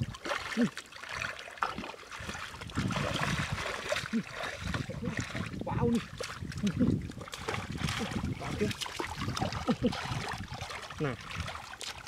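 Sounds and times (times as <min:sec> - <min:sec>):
muddy water splashing: 0:00.0 - 0:12.0
wading barefoot through water: 0:00.0 - 0:12.0.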